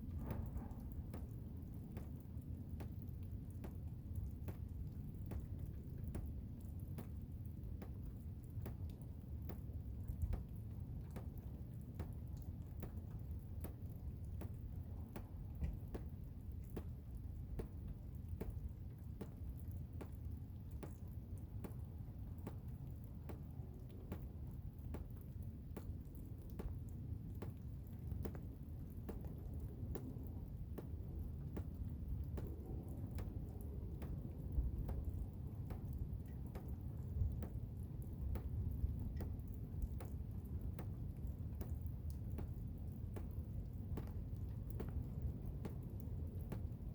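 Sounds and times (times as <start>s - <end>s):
low rumble of wind: 0.0s - 46.9s.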